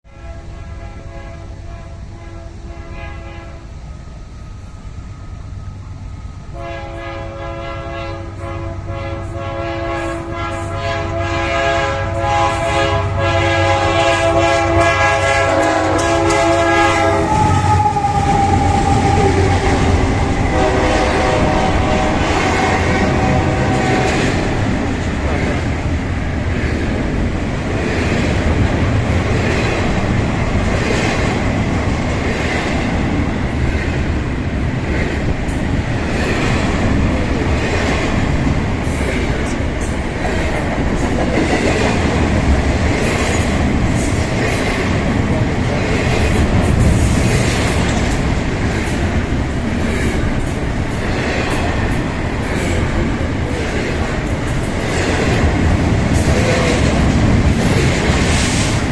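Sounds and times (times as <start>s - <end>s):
freight train wagons rumbling: 0.2s - 58.9s.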